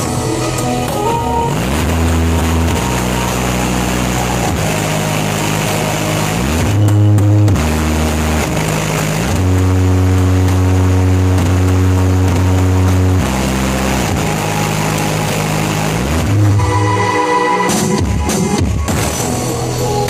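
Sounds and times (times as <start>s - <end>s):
subwoofer bass tone: 0.0s - 20.0s.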